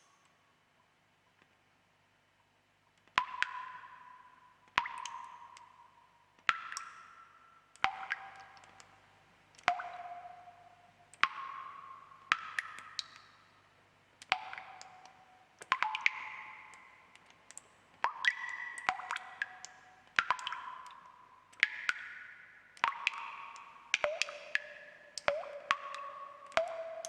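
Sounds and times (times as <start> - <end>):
water drops plinking into water: 3.0 - 13.5, 14.2 - 27.0.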